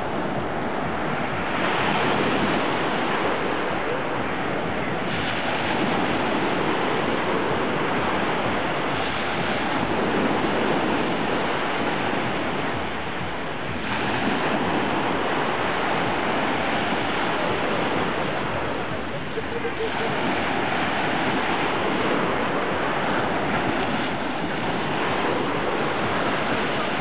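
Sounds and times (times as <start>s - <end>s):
waves breaking on a beach: 0.0s - 27.0s
wind on microphone: 0.0s - 27.0s.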